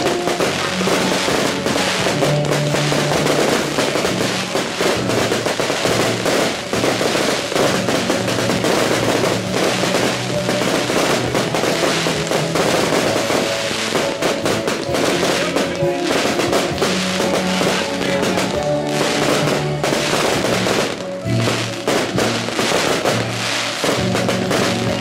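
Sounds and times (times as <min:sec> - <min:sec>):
fireworks bursting and crackling: 0:00.0 - 0:25.0
music with drums: 0:00.0 - 0:25.0.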